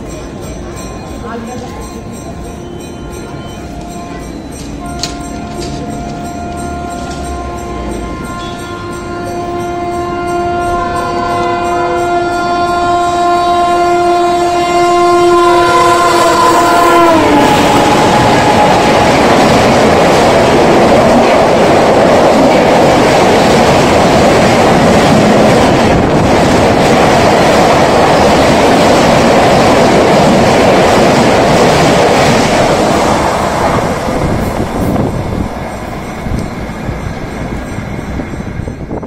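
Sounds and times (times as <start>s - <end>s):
express train passing at speed: 0.0s - 39.0s.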